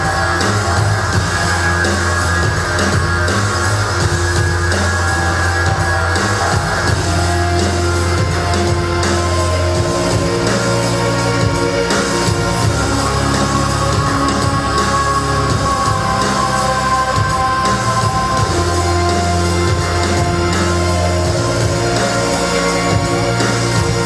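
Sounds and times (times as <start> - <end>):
rock music with guitar and drums: 0.0 - 24.0.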